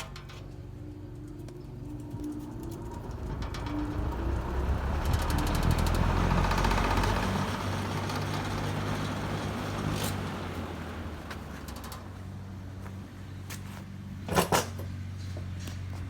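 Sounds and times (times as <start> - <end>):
fan blades rattling: 0.0 - 15.7
box fan motor hum: 0.5 - 14.3.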